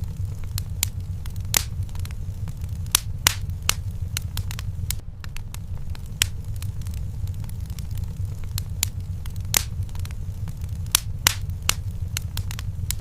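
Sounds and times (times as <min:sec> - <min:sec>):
low steady rumble: 0:00.0 - 0:13.0
wood fire crackling and popping: 0:00.0 - 0:13.0.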